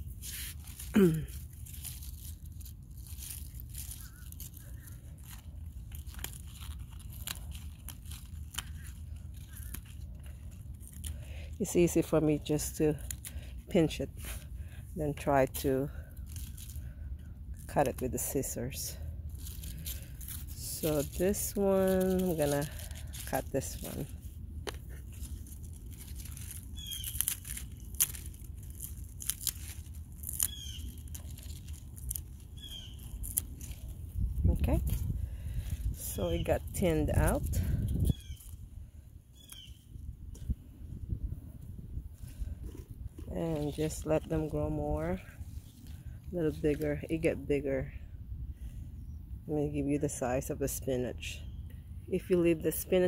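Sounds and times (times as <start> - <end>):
spinach leaves snapping: 0.0 - 38.6, 39.3 - 40.5, 42.2 - 47.5
steady low rumble: 0.0 - 53.0.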